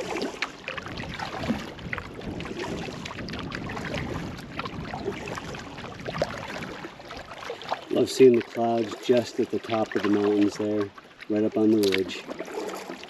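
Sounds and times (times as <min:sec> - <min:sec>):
canoe paddle strokes in water: 0:00.0 - 0:13.0
small splashes: 0:00.0 - 0:13.0.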